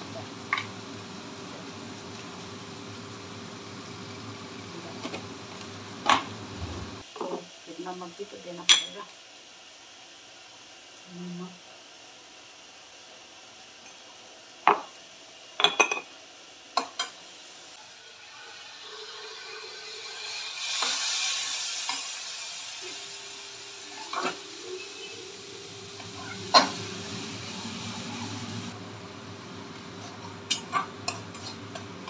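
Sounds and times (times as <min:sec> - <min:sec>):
water hissing in a hot wok: 0:00.0 - 0:32.0.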